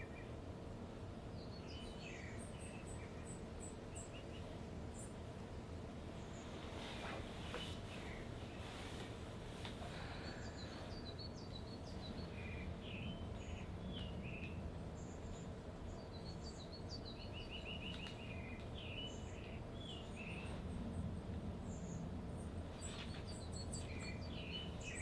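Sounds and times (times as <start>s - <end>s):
low background rumble: 0.0s - 25.0s
small songbirds chirping: 0.0s - 25.0s.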